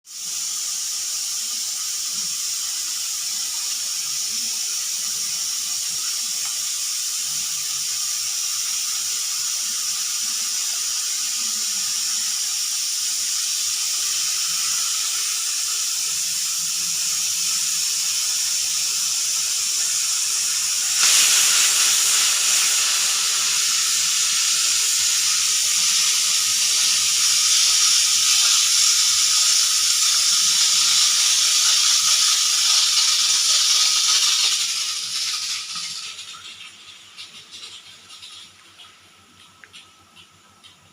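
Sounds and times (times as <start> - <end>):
pressure cooker whistle hissing: 0.1 - 36.6.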